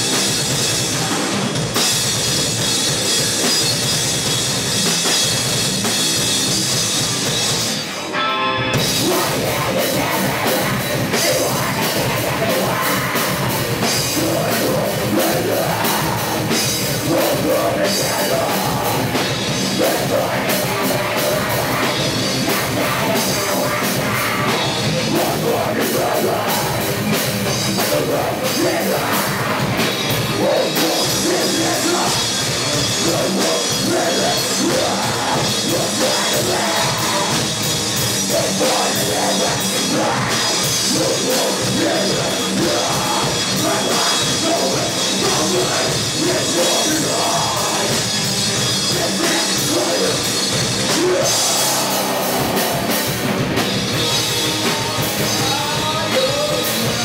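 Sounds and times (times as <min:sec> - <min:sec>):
drum kit: 0:00.0 - 0:57.0
heavy rock band playing live: 0:00.0 - 0:57.0.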